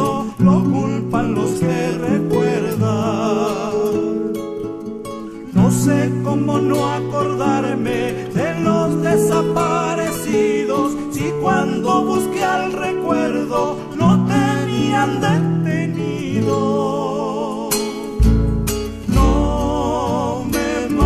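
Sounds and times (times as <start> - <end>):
acoustic guitar: 0.0 - 21.0
person singing with vibrato: 0.0 - 21.0.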